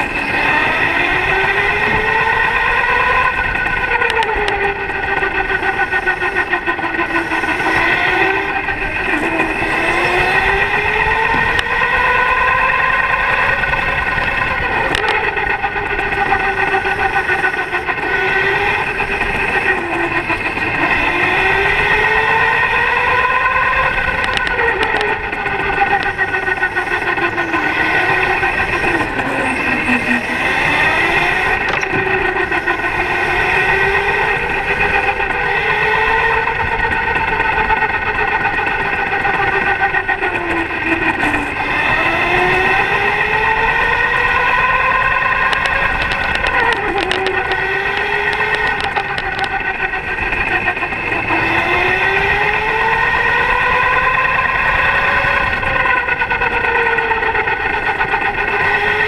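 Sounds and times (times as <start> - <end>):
electric go-kart motor whine: 0.0 - 59.0
steady high whine: 0.0 - 59.0.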